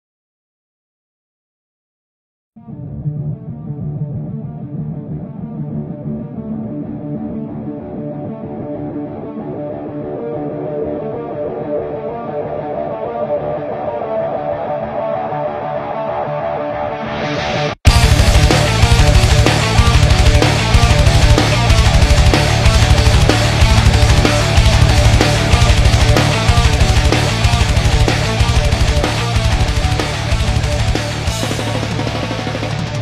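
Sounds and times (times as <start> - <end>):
guitar music with bass: 2.6 - 33.0.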